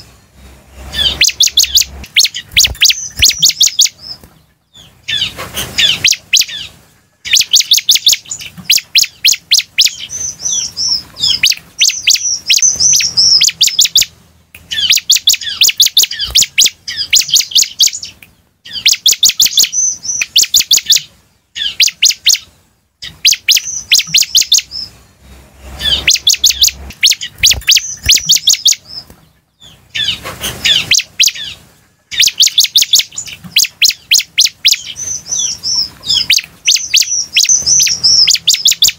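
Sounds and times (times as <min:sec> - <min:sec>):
bird singing sharp high notes: 0:00.0 - 0:04.2, 0:04.8 - 0:38.9.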